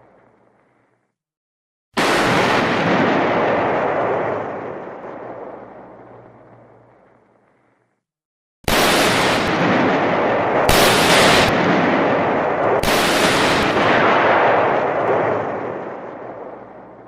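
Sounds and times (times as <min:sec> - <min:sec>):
shotgun blasts with echoing reverb: 0:02.0 - 0:07.6, 0:08.7 - 0:17.0.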